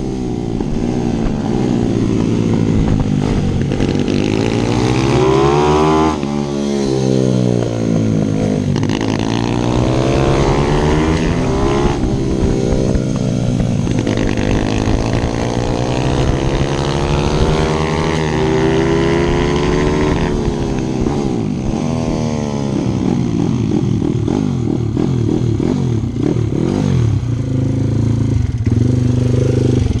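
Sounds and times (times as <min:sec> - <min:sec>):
pit bike engine revving: 0:00.0 - 0:27.2.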